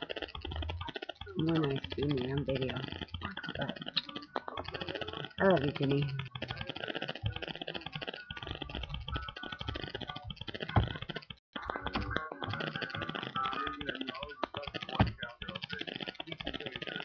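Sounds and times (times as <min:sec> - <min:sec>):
dense rapid clicking: 0:00.0 - 0:17.0.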